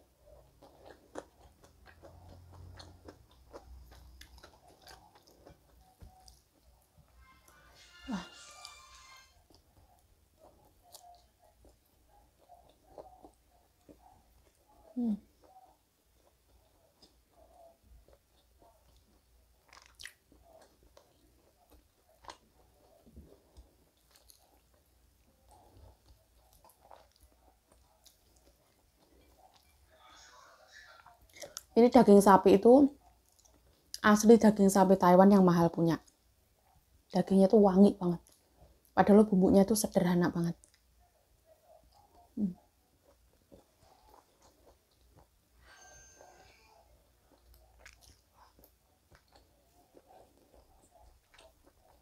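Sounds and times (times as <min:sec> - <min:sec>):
person chewing food: 0:00.0 - 0:31.8, 0:33.0 - 0:34.0, 0:40.6 - 0:52.0.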